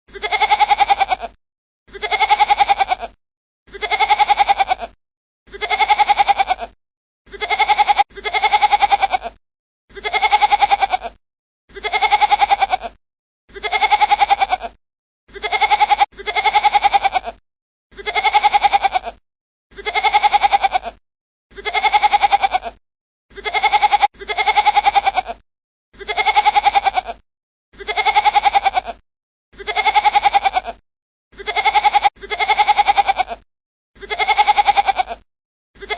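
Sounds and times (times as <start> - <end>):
goat bleating: 0.1 - 25.4, 26.0 - 27.2, 27.8 - 29.0, 29.6 - 30.8, 31.4 - 33.4, 34.0 - 35.2.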